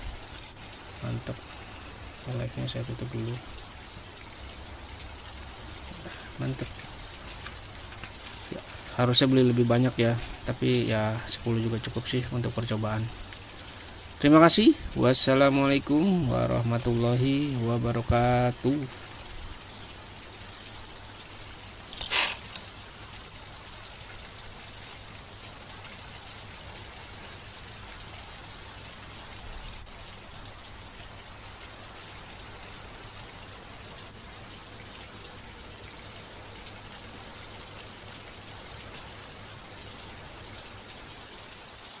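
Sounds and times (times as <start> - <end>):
background hiss: 0.0 - 42.0.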